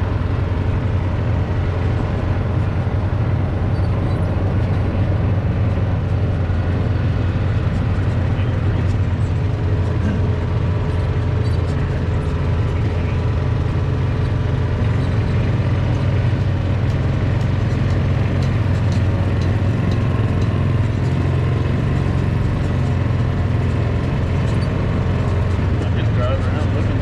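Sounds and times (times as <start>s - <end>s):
vehicle engine droning: 0.0s - 27.0s.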